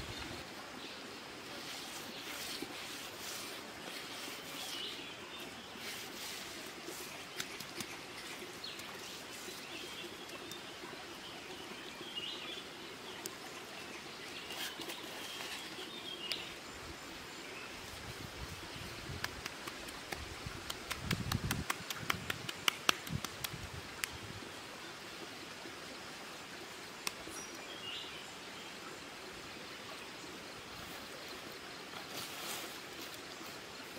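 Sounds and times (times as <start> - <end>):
forest stream rushing: 0.0 - 33.9.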